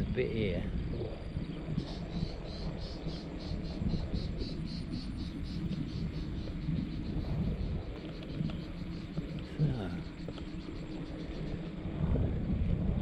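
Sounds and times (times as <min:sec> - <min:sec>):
insect chirping: 0:00.0 - 0:13.0
low steady rumble: 0:00.0 - 0:13.0.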